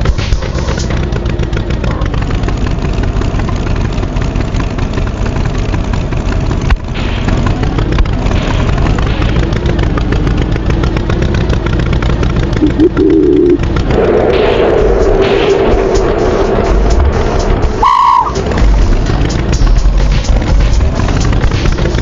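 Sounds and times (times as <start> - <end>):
tractor engine chugging: 0.0 - 22.0.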